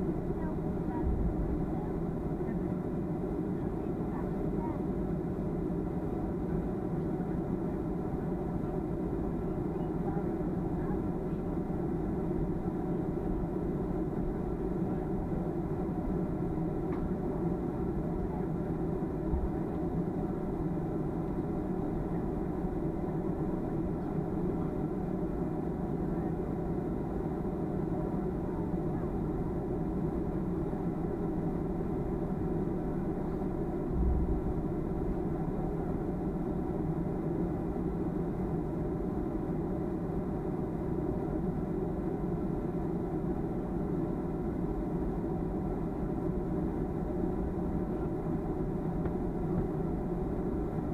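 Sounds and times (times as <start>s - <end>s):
jet cabin drone: 0.0s - 50.9s.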